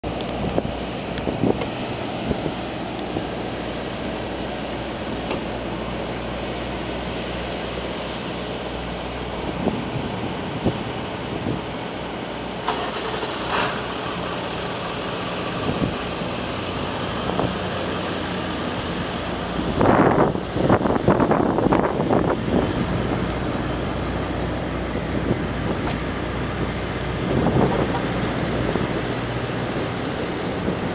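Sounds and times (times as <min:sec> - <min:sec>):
truck engine humming: 0:00.0 - 0:30.9.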